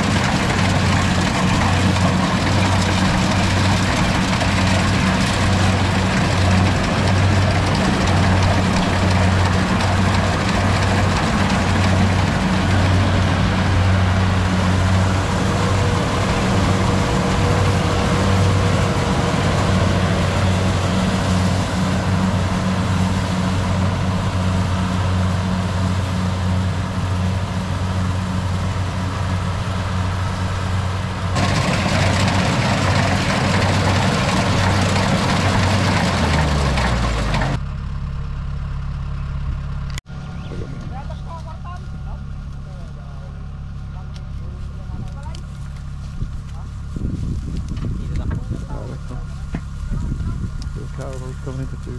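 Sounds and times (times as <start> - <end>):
harvester engine running: 0.0 - 51.9.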